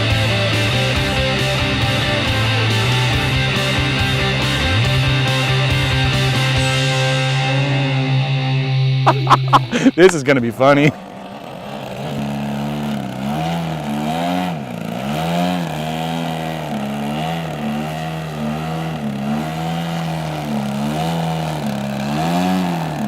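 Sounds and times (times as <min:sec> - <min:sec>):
rc plane engine in flight: 0:00.0 - 0:09.0, 0:09.6 - 0:23.0.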